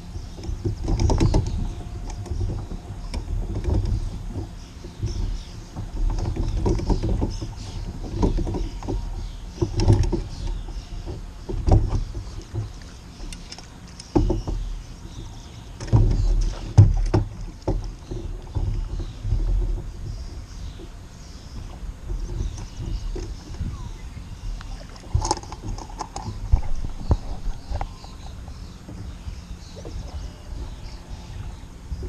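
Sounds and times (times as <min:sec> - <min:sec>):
water splashing around kayak: 0:00.0 - 0:32.0.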